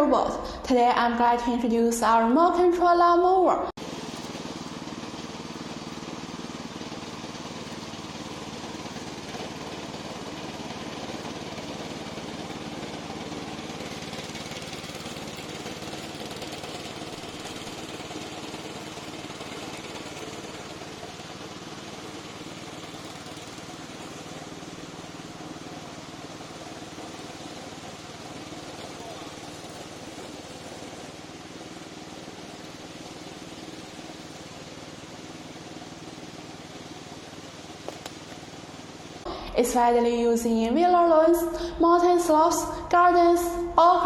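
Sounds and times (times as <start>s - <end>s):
lawn mower engine running: 3.8s - 39.8s.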